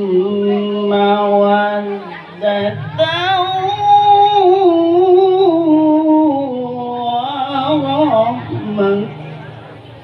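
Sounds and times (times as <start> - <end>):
man reciting melodically: 0.0 - 9.9.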